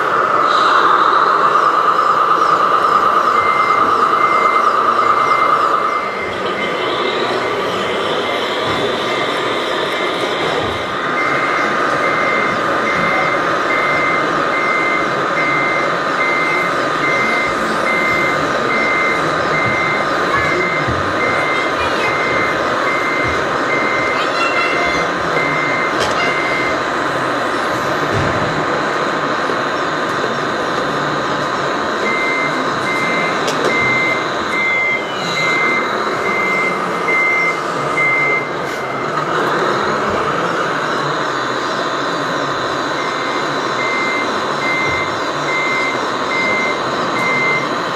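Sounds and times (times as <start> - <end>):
reversing beeper beeping: 0.0 - 27.8, 31.9 - 40.1, 40.8 - 47.9
continuous whine: 0.0 - 47.9.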